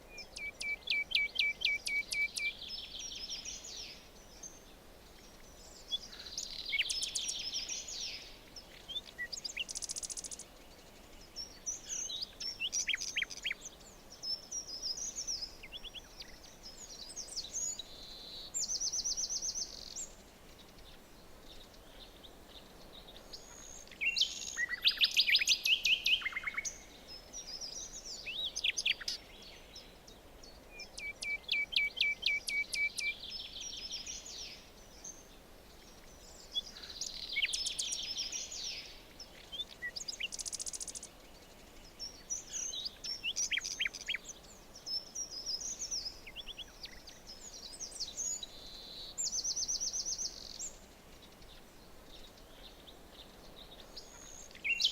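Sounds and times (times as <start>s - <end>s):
faint forest ambience hiss: 0.0s - 54.9s
songbirds chirping and trilling: 0.0s - 54.9s.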